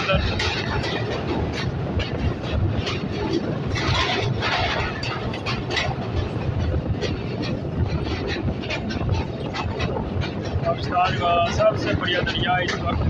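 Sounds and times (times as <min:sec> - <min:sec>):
clacks and rattles: 0:00.0 - 0:13.0
train wheels rumbling on bridge: 0:00.0 - 0:13.0.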